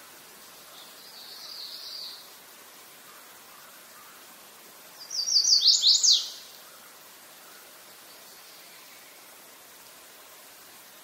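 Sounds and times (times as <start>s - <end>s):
faint background hiss: 0.0s - 11.0s
songbird singing: 0.6s - 9.4s.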